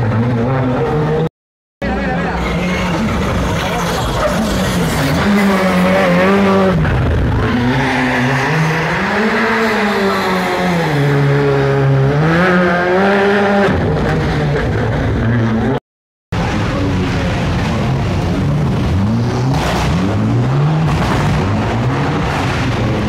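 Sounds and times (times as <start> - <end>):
rally car engine revving: 0.0 - 15.8, 16.4 - 23.0.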